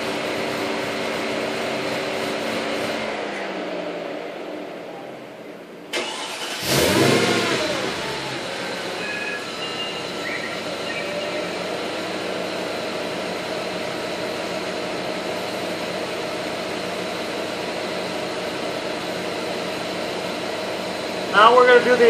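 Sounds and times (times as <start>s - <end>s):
car engine starting and idling: 0.0s - 22.0s.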